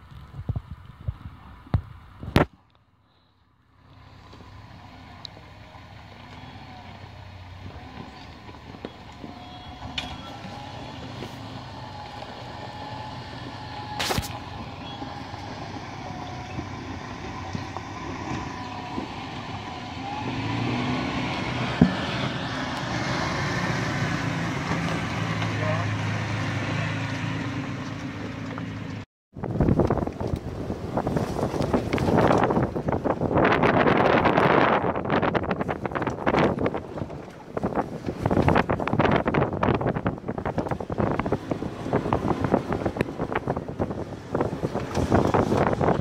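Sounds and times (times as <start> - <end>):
truck engine running at low revs: 3.2 - 46.0.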